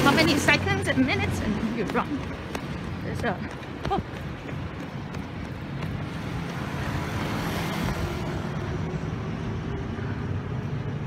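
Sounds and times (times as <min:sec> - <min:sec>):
road traffic hum: 0:00.0 - 0:11.0
vehicle passing: 0:00.0 - 0:11.0.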